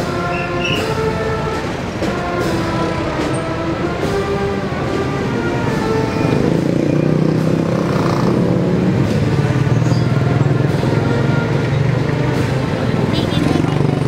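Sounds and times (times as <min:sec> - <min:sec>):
street noise: 0:00.0 - 0:14.0.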